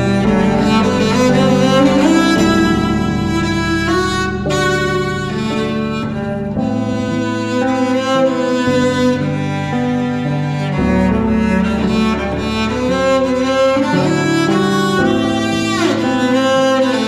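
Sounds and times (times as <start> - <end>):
cello slow melody: 0.0 - 17.0.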